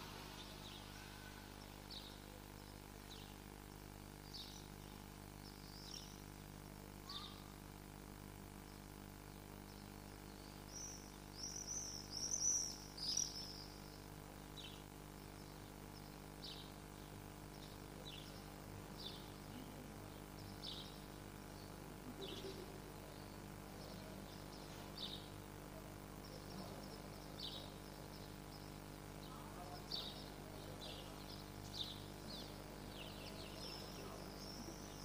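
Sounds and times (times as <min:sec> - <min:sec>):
bird chirping: 0:00.0 - 0:03.5, 0:04.1 - 0:07.6, 0:08.6 - 0:35.0
low hum: 0:00.0 - 0:35.0.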